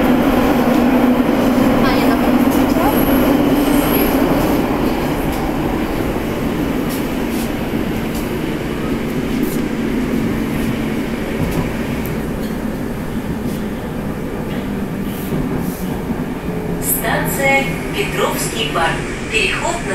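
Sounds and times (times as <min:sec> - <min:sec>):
train wheels rumbling on rail: 0:00.0 - 0:19.9.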